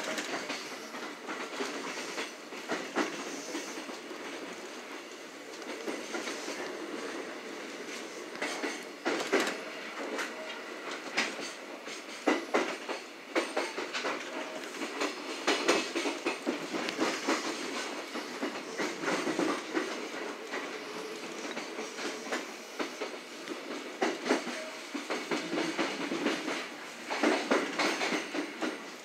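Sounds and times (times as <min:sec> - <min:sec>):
steady train rumble: 0:00.0 - 0:29.0
train wheels clattering: 0:00.0 - 0:29.0.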